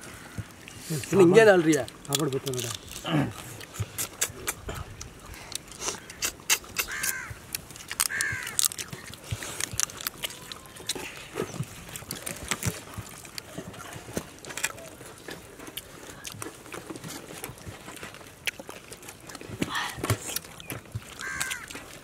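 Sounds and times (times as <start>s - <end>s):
crab shells cracking: 1.5s - 22.0s.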